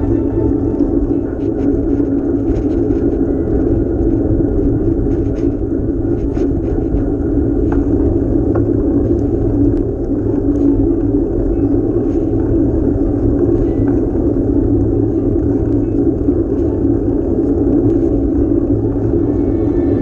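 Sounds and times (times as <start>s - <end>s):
wind and road noise from bicycle: 0.0s - 20.0s.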